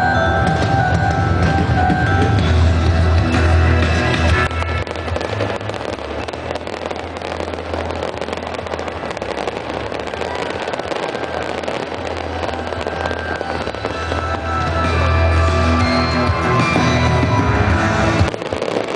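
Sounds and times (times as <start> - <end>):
fireworks crackling and popping: 0.0 - 18.9.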